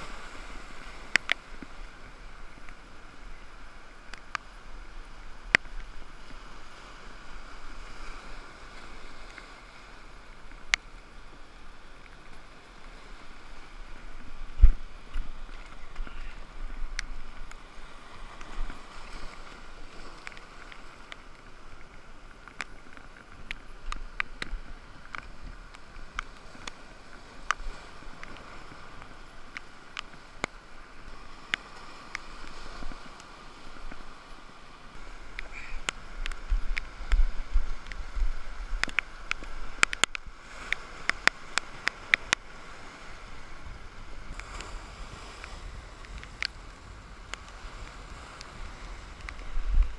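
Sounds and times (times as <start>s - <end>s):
surf washing among boulders: 0.0s - 49.9s.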